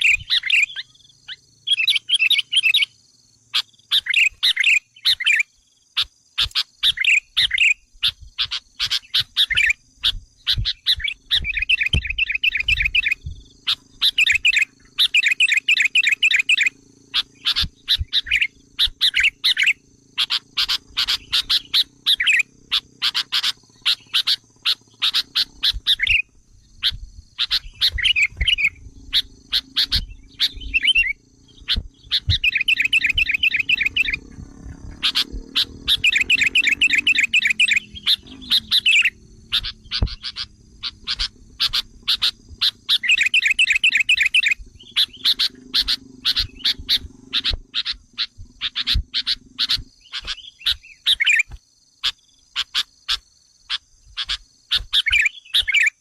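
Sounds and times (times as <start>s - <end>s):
bird chattering trill: 0.0s - 56.0s
bulbul sharp chip calls: 3.5s - 56.0s.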